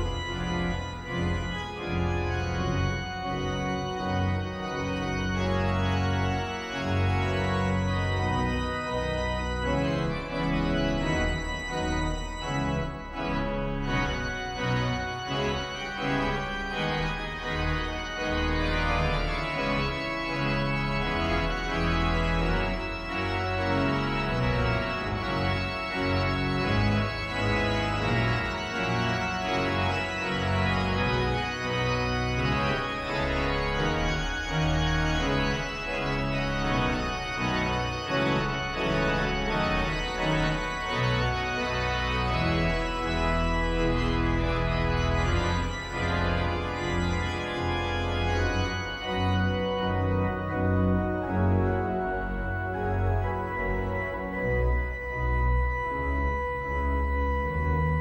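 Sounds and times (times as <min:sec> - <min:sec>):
pipe organ playing a hymn: 0:00.0 - 0:58.0.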